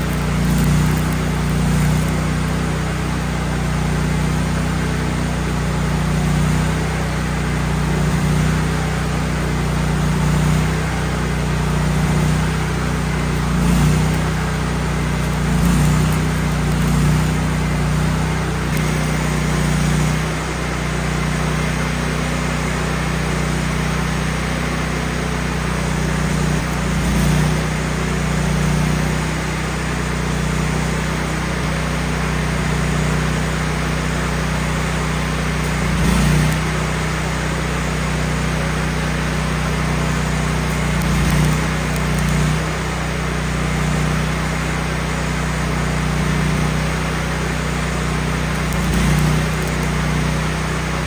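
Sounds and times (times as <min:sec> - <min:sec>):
welder petrol engine running: 0:00.0 - 0:51.0.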